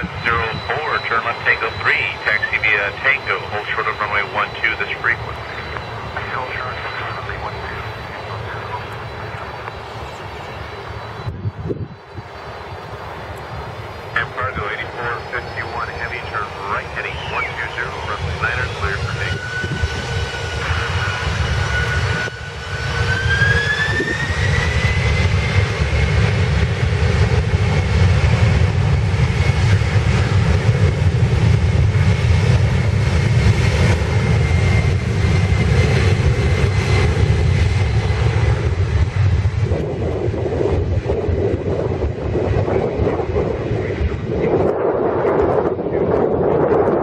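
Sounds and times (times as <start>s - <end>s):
jet engines spooling up: 0.0s - 47.0s.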